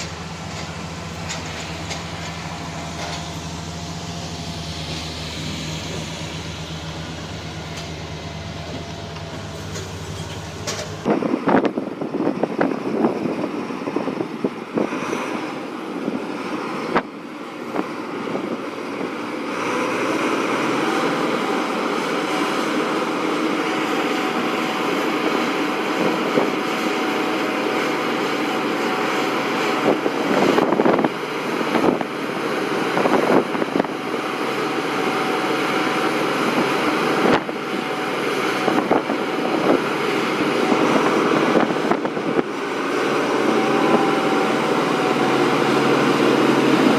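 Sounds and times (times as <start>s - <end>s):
machinery engine drone: 0.0s - 46.9s.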